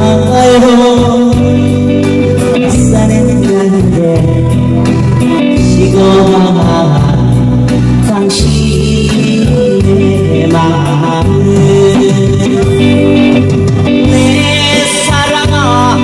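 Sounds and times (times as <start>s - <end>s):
bass line: 0.0s - 16.0s
live band playing pop song: 0.0s - 16.0s
person singing: 0.0s - 16.0s.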